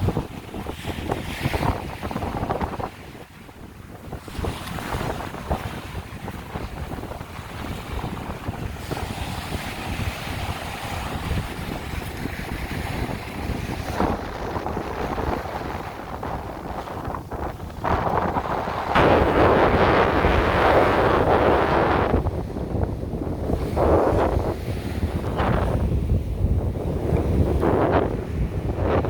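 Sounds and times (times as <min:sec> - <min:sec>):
surf washing on shore: 0:00.0 - 0:29.0
wind buffeting microphone: 0:00.0 - 0:29.0.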